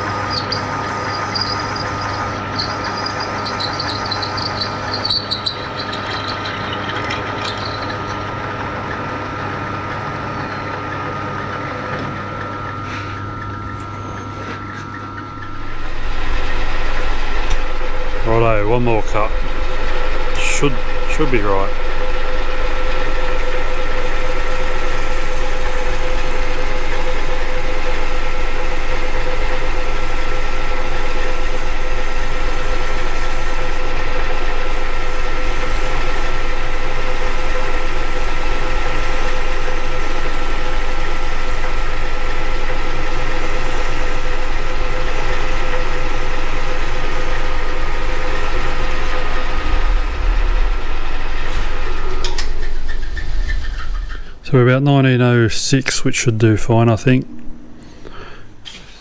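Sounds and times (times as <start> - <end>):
metal lathe whine: 0.0 - 54.8.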